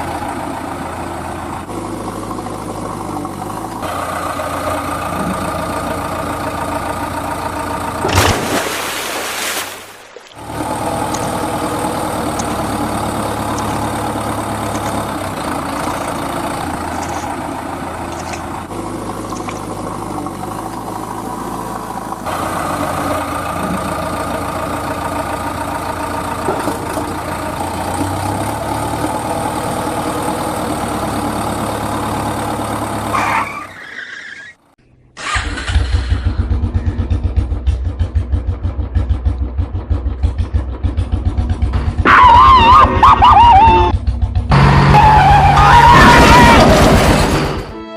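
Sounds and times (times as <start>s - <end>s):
rapid pulsing engine: 0.0s - 9.1s, 10.4s - 33.2s, 35.3s - 47.7s
vehicle engine running: 0.0s - 33.5s, 35.2s - 47.8s.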